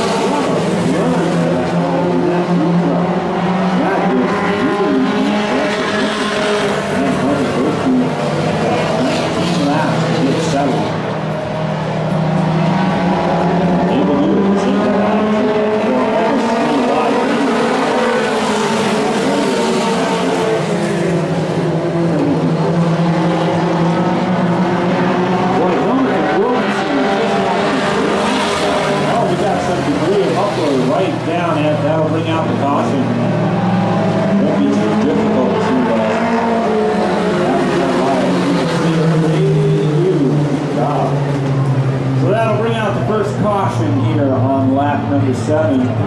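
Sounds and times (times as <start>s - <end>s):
race truck engines: 0.0s - 46.0s.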